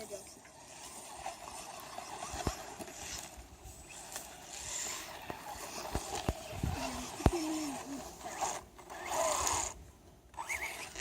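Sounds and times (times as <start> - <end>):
rc truck motor and tyres: 0.0 - 11.0.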